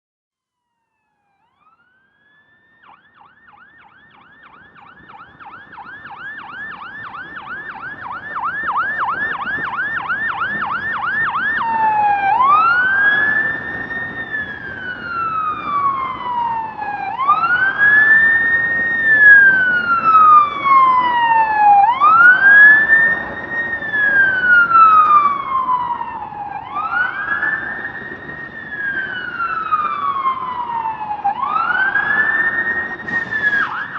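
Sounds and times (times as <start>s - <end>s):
emergency vehicle siren: 0.6s - 33.9s
low traffic rumble: 1.5s - 33.9s.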